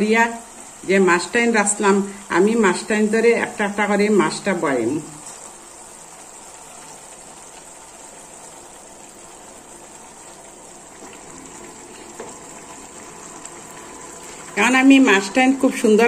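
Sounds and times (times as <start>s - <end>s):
gravy sizzling in a frying pan: 0.0s - 16.0s.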